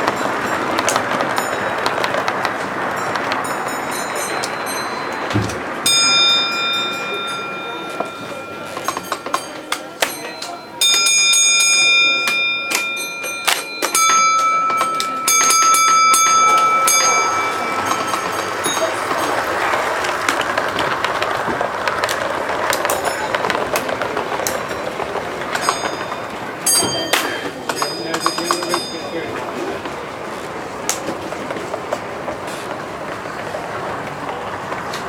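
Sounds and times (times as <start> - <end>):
high steady tone: 0.0 - 29.9
hall chatter: 0.0 - 35.0
model trains clicking: 0.0 - 35.0.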